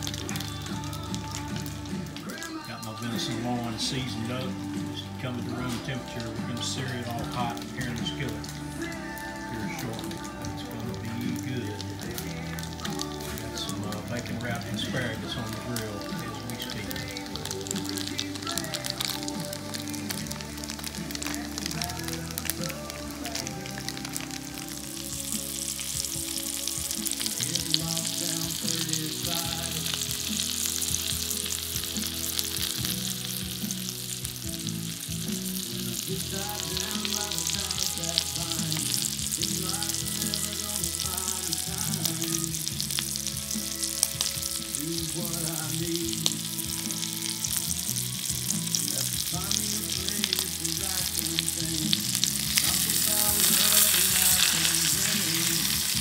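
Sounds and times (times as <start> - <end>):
butter sizzling in a skillet: 0.0 - 56.0.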